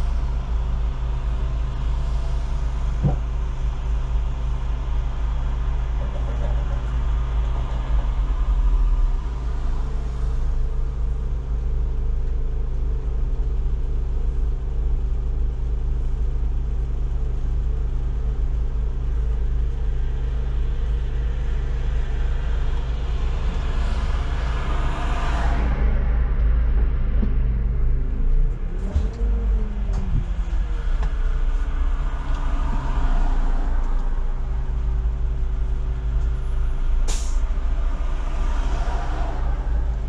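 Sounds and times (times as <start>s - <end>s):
bus engine rumble: 0.0s - 40.0s
road noise: 0.0s - 40.0s.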